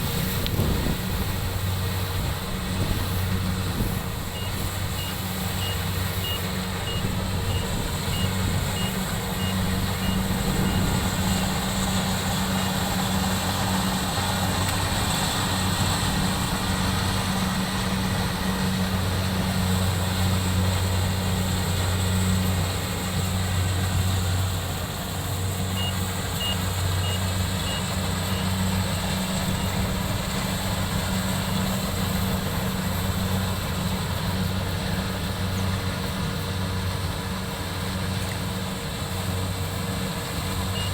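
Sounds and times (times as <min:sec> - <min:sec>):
harvester engine droning: 0:00.0 - 0:40.9.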